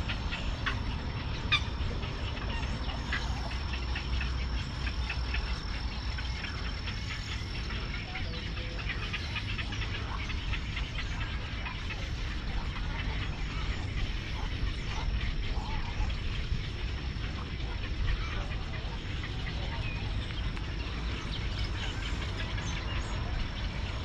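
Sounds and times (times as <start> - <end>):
birds croaking and squawking: 0.0 - 24.0.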